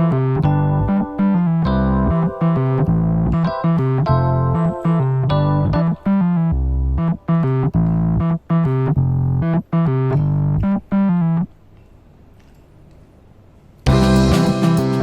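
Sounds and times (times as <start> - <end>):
electric piano chords: 0.0 - 11.5, 13.9 - 15.0
faint low noise: 0.0 - 15.0.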